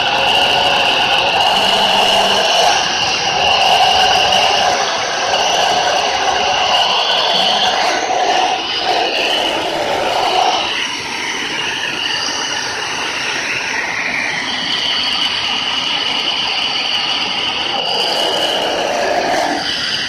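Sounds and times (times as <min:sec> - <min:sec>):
electric fan whine: 0:00.0 - 0:20.0.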